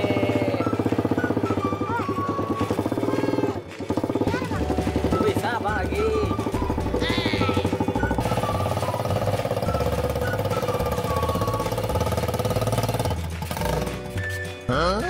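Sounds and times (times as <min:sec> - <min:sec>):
motorbike engine running: 0:00.0 - 0:14.4.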